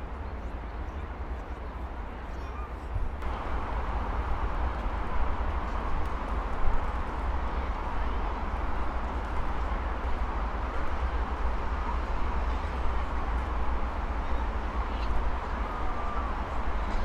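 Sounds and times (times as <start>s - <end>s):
heavy traffic roar: 2.8s - 17.0s.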